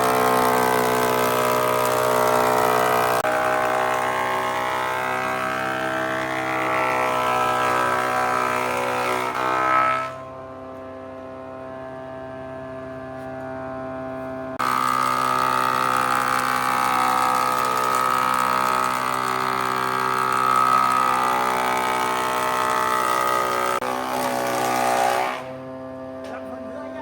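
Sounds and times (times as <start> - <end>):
woodworking machine motor hum: 0.0 - 27.0.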